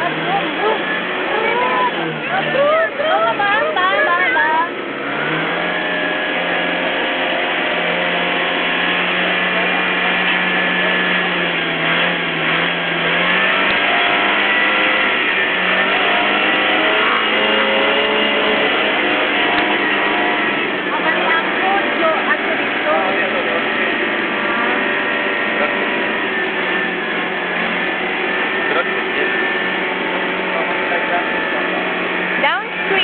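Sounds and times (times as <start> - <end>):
boat motor running: 0.0 - 33.0
faint voices chattering: 0.0 - 33.0.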